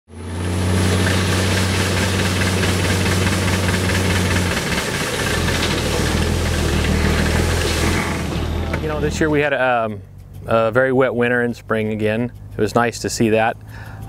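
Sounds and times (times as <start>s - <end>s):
low engine hum: 0.1s - 14.0s.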